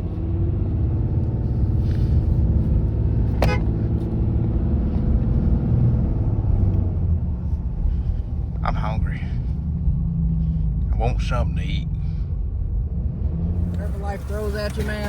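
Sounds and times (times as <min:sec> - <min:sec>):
truck rumble from inside cab: 0:00.0 - 0:15.0.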